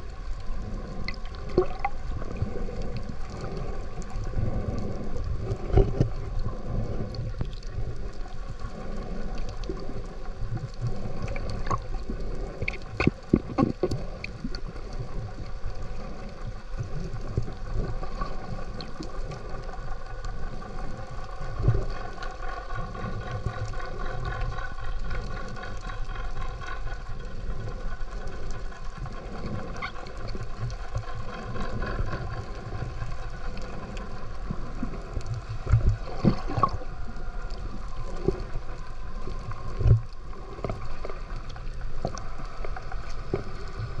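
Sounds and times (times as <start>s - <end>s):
gurgling water: 0.0s - 44.0s
underwater low rumble and hum: 0.0s - 44.0s.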